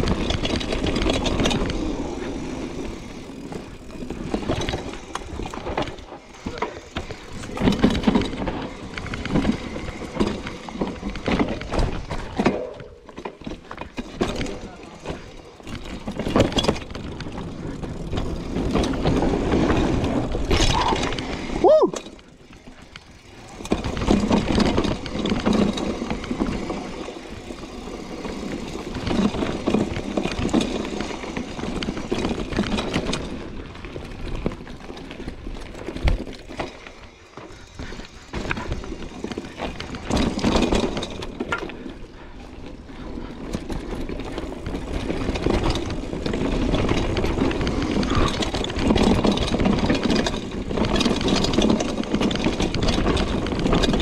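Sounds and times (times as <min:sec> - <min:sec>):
bike rattling over bumps: 0:00.0 - 0:54.0
tyres rumbling over rough ground: 0:00.0 - 0:54.0.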